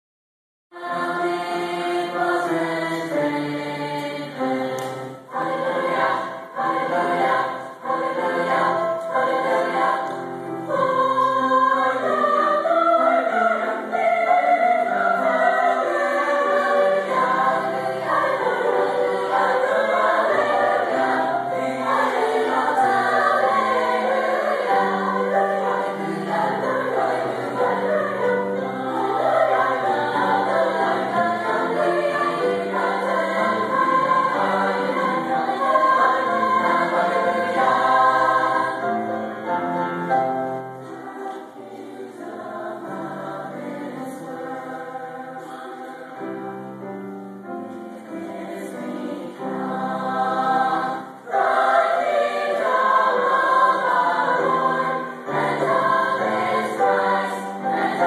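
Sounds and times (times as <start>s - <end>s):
choir singing: 0.7s - 58.0s.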